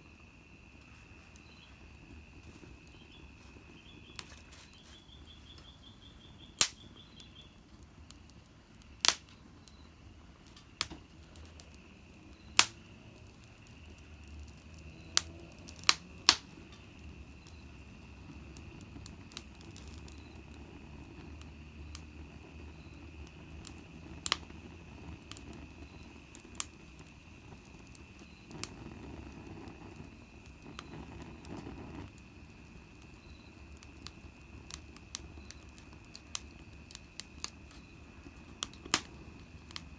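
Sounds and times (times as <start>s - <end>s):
low steady hiss: 0.0s - 39.9s
wood fire crackling: 0.0s - 39.9s.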